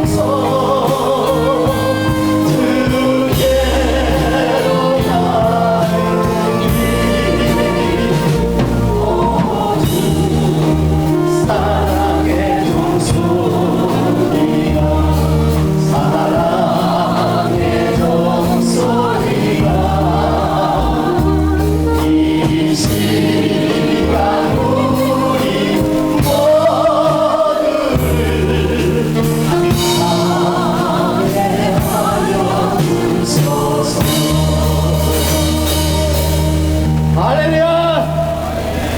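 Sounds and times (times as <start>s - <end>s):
choir singing a hymn: 0.0s - 38.9s
instrumental accompaniment: 0.0s - 38.9s.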